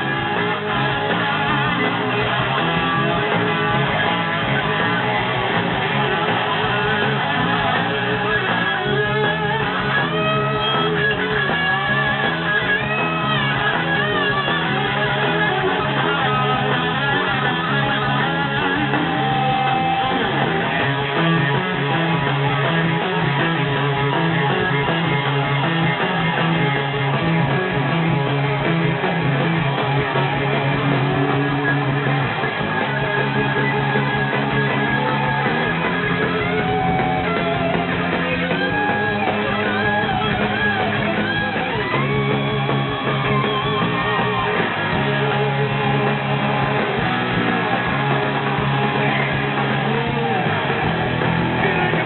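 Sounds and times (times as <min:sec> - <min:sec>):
bass line: 0:00.0 - 0:52.0
electric guitar lead sliding notes: 0:00.0 - 0:52.0.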